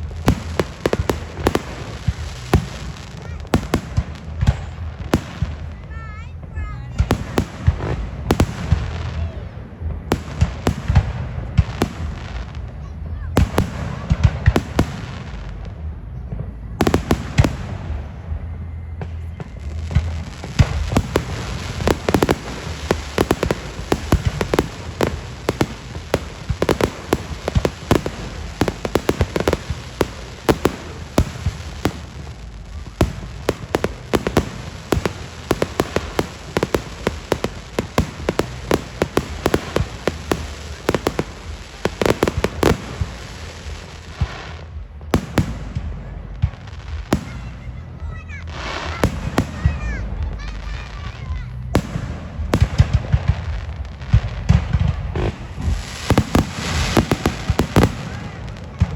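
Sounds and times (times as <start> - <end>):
fireworks bangs and crackling: 0.0 - 58.9.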